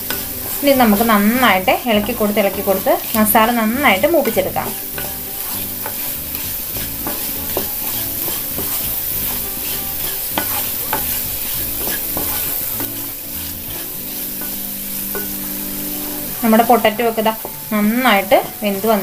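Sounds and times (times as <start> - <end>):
food sizzling in oil: 0.0 - 19.0
spatula scraping and tapping pan: 0.0 - 19.0.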